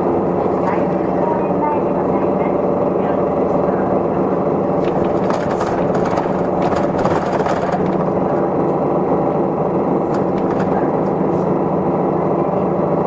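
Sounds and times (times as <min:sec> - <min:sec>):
bus diesel engine running: 0:00.0 - 0:13.0
road noise: 0:00.0 - 0:13.0.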